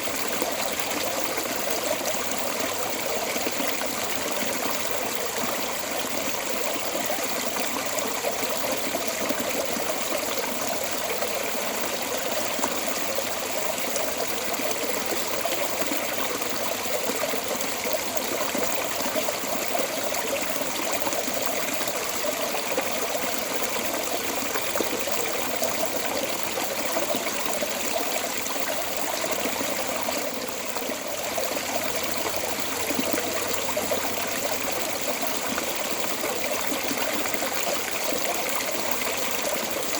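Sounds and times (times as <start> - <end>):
water flowing from storm drain: 0.0 - 39.9.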